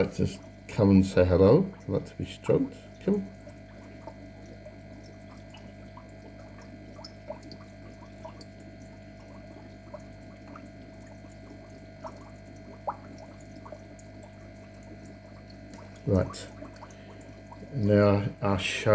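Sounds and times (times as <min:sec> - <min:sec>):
small drips and splashes: 0:00.0 - 0:18.9
steady hum: 0:00.0 - 0:18.9
water trickling: 0:00.0 - 0:18.9.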